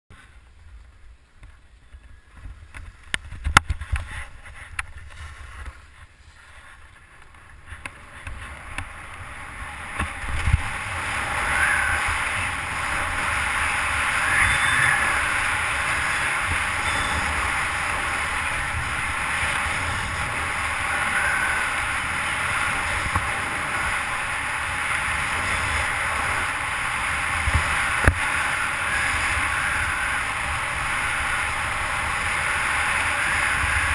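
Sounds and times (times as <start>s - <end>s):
skis scraping over snow: 0.2s - 33.9s
wind on microphone: 0.3s - 33.9s.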